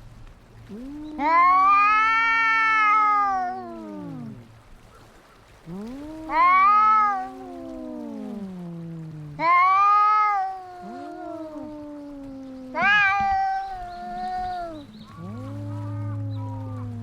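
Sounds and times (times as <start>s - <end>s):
cats yowling: 0.6s - 4.5s, 5.6s - 17.0s
cat growling moan: 0.6s - 4.6s, 5.6s - 17.0s.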